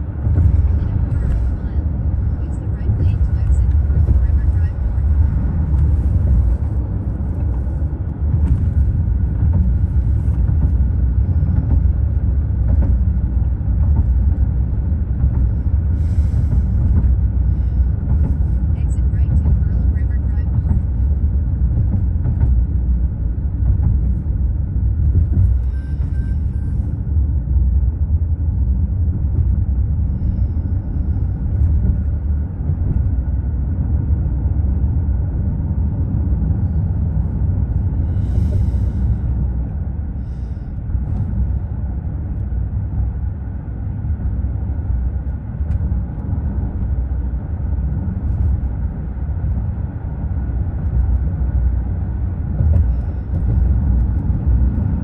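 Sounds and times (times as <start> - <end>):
car road noise inside cabin: 0.0 - 55.0
faint steady whine: 0.0 - 55.0.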